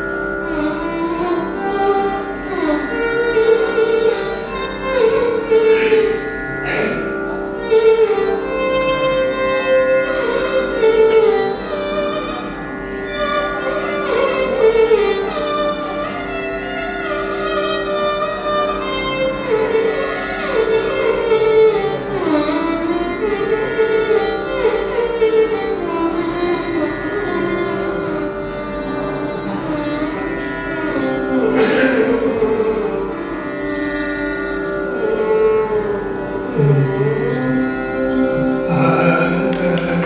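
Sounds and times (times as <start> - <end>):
steady drone: 0.0 - 40.0
violin: 0.0 - 40.0.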